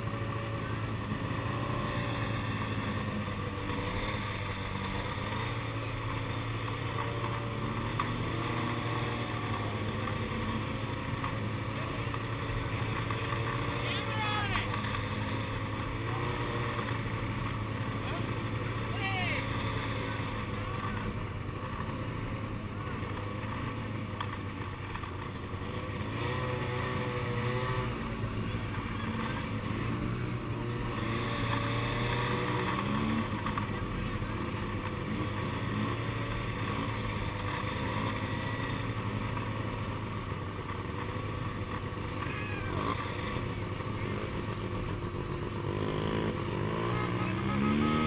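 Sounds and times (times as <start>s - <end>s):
snowmobile engine droning: 0.0s - 48.0s
vehicle engines passing: 0.0s - 48.0s.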